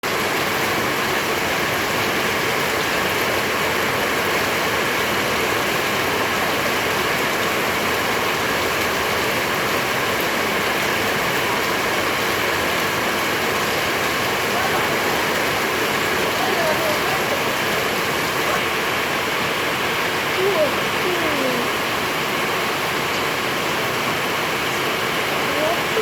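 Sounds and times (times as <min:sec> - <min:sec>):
floodwater rushing in river: 0:00.0 - 0:26.0.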